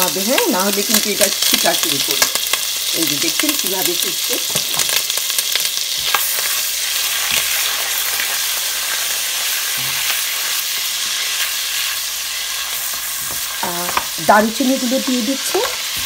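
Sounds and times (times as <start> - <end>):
paste sizzling in hot ghee: 0.0 - 16.0.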